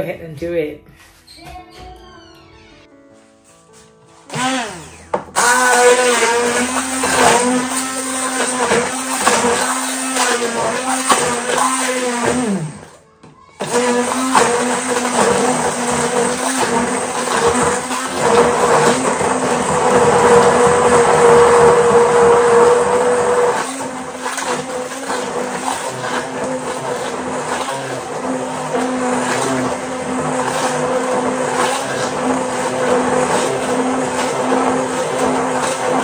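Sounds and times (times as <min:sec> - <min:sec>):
stick blender motor whine: 0:04.3 - 0:13.0, 0:13.6 - 0:36.0.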